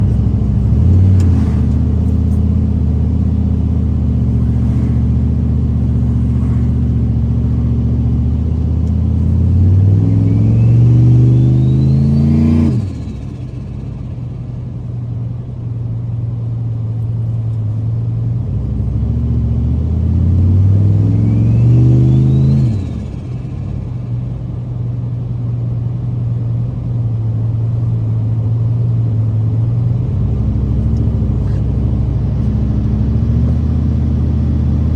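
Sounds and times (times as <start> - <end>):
turbocharged car engine accelerating: 0.0 - 14.6, 18.4 - 25.0, 27.5 - 34.9.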